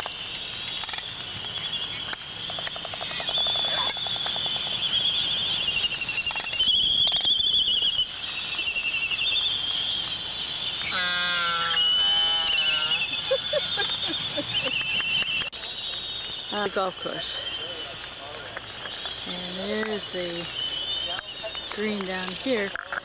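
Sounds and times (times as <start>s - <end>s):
albatrosses calling: 0.0s - 23.0s.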